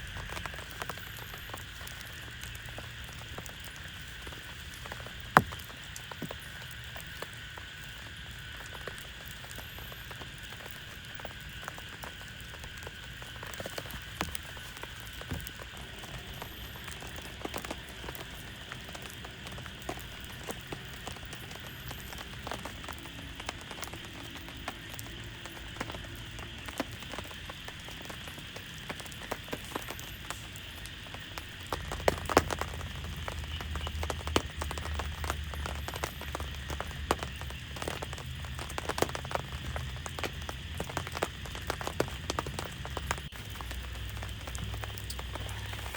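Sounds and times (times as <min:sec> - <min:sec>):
heavy rain falling: 0:00.0 - 0:45.9
raindrops ticking: 0:00.0 - 0:45.9.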